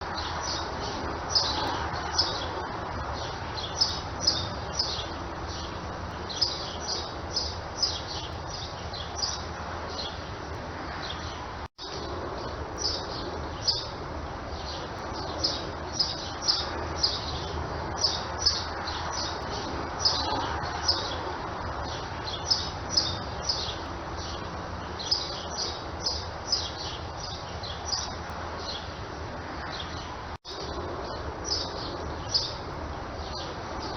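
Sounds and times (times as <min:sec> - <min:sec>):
small birds chirping: 0:00.0 - 0:33.9
steady background hiss: 0:00.0 - 0:33.9.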